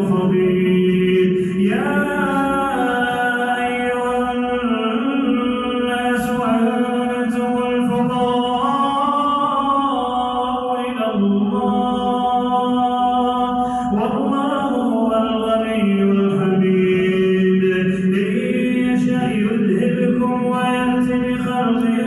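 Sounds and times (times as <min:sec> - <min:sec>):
man chanting melodically: 0:00.0 - 0:22.0.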